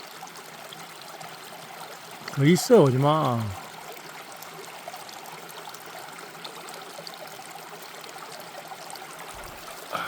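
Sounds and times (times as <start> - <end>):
stream babbling over rocks: 0.0 - 10.0.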